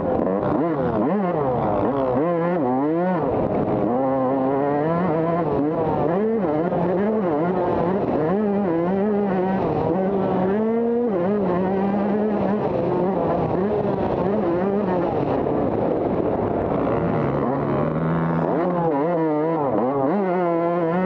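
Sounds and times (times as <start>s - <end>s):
motocross bike engine racing: 0.0s - 21.0s
rush of noise: 2.8s - 20.9s.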